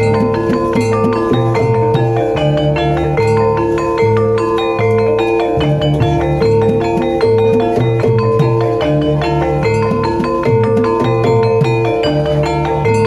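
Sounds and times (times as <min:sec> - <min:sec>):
low sustained tones: 0:00.0 - 0:13.0
mallet percussion run: 0:00.0 - 0:13.0.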